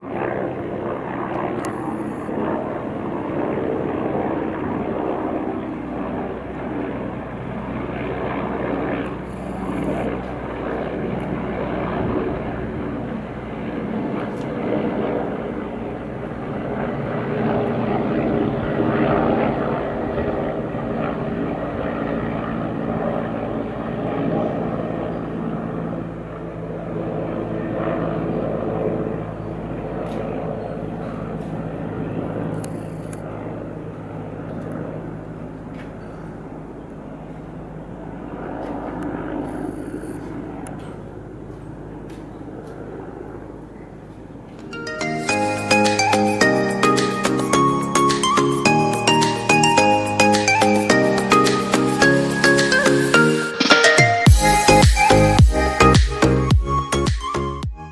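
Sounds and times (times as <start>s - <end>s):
helicopter engines and rotor drone: 0.0s - 57.9s.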